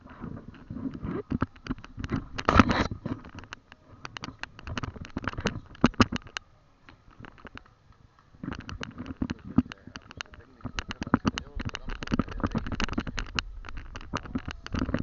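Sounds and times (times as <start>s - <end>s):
camera handling clicks and rubbing: 0.3s - 6.4s, 8.4s - 15.0s.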